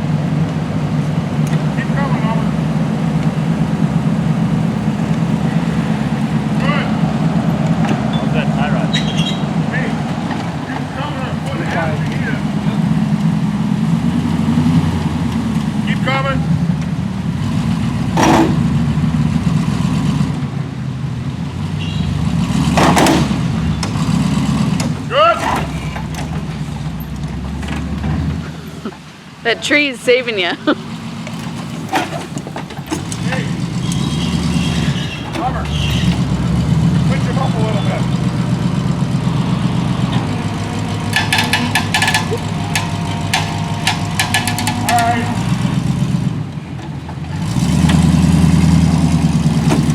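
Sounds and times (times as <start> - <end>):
truck engine running slowly: 0.0 - 49.9.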